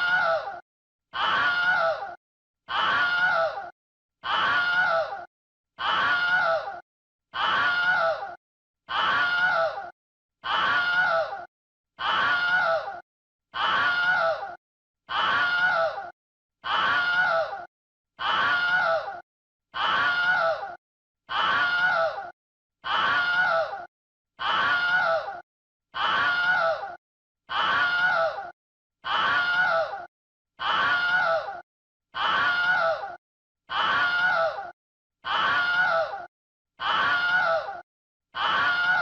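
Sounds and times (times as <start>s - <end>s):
person screaming: 0.0s - 0.6s, 1.2s - 6.8s, 7.4s - 13.0s, 13.6s - 19.2s, 19.8s - 25.4s, 26.0s - 31.6s, 32.2s - 37.8s, 38.4s - 39.0s.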